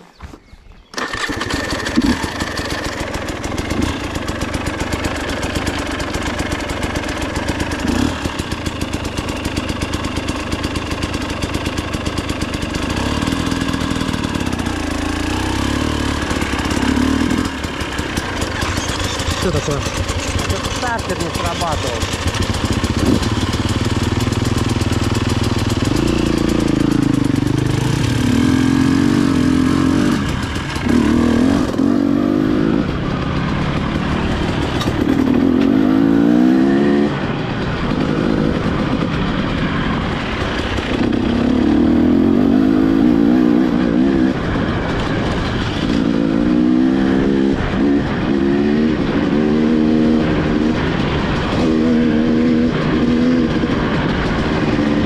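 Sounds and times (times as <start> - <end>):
dirt bike engine revving: 0.9 - 55.0.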